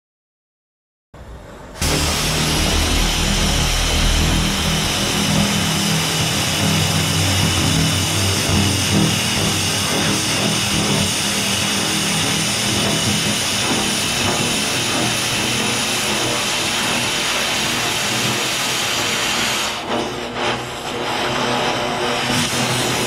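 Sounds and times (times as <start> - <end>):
cutting torch running: 1.8 - 23.0.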